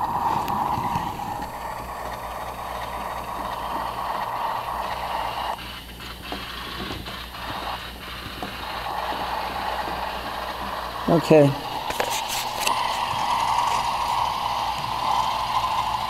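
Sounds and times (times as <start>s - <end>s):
model train whirring on rails: 0.0s - 16.0s.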